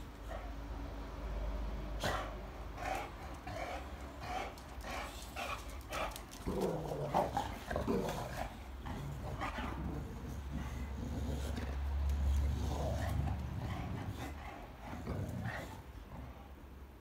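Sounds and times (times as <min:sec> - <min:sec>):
dogs breathing and scuffling: 0:00.0 - 0:17.0.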